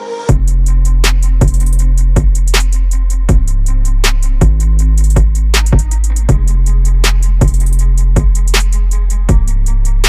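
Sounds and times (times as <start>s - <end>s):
beat with heavy bass and drums: 0.3s - 10.0s
hi-hats ticking: 0.3s - 10.0s.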